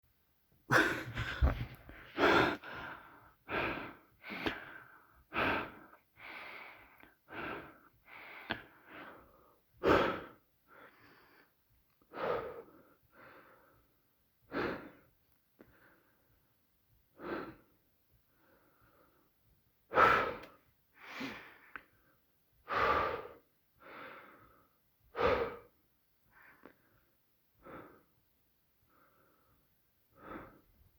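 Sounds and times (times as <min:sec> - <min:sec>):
person panting: 0:00.7 - 0:16.4, 0:19.9 - 0:28.1, 0:28.8 - 0:30.7.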